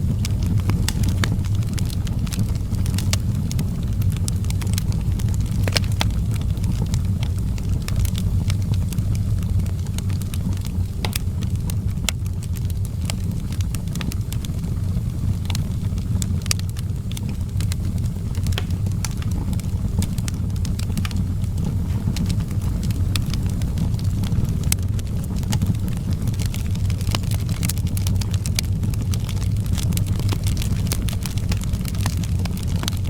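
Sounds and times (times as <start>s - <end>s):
burning wood crackling and popping: 0.0s - 33.0s
fire flames rumbling: 0.0s - 33.0s.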